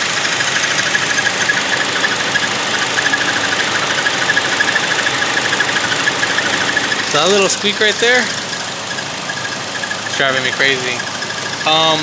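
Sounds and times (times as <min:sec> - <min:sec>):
car engine idling: 0:00.0 - 0:12.0
high-pitched engine squeaks: 0:00.0 - 0:12.0.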